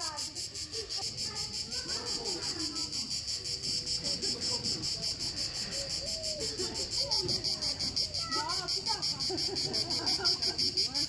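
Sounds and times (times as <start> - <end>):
cicadas singing: 0.0 - 11.0.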